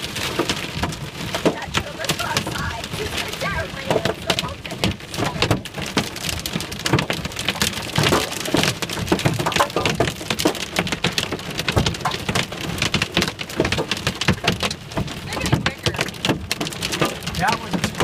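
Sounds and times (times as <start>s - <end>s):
rain and hail on car roof: 0.0s - 18.0s.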